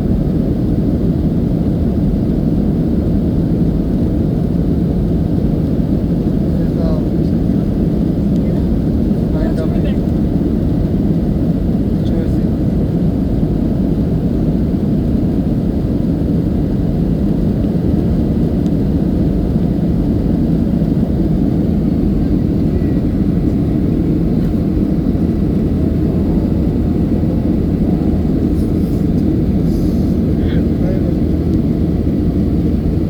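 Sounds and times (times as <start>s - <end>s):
airliner engines rumbling in cabin: 0.0s - 33.0s.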